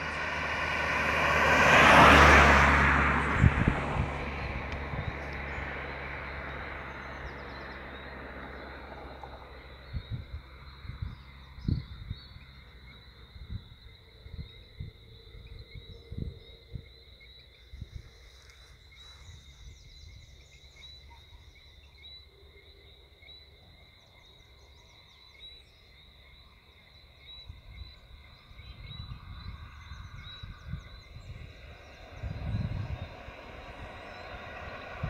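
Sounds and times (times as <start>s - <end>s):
car approaching: 0.0s - 35.0s
frogs chirping: 3.8s - 35.0s.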